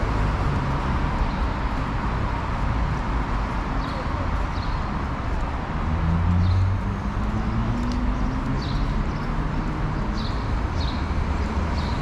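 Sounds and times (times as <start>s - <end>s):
traffic rumble: 0.0s - 12.0s
voices of passers-by: 0.0s - 12.0s.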